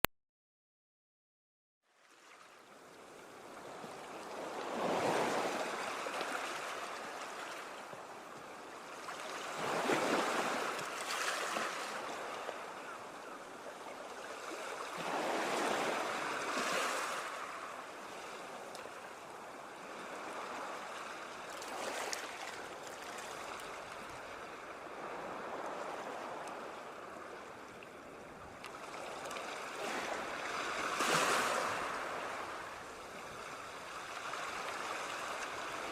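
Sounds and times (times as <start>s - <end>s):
sea waves breaking: 2.1s - 35.9s.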